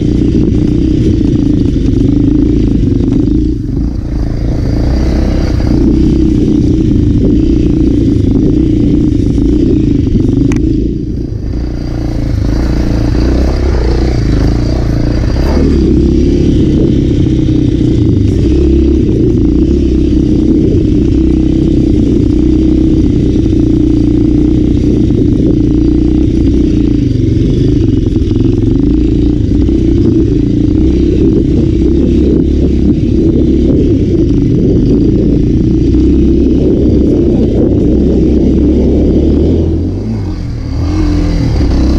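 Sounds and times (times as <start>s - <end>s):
off-road motorcycle engine running: 0.0s - 41.9s.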